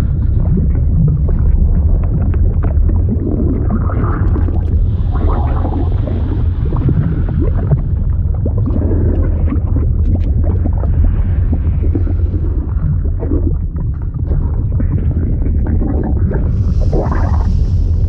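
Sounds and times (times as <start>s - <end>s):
underwater gurgling and bubbling: 0.0s - 18.0s.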